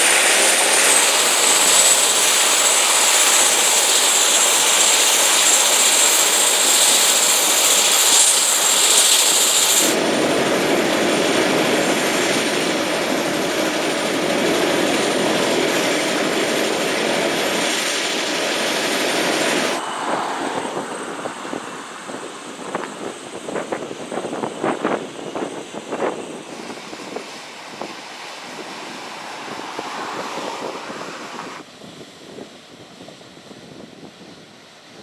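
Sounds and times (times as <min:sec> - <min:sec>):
helicopter turbine and rotor: 0:00.0 - 0:35.0.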